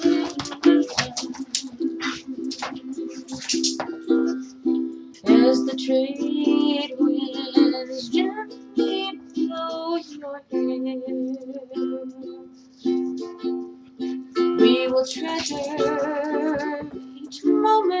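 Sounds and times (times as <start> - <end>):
ukulele strumming chords: 0.0 - 18.0.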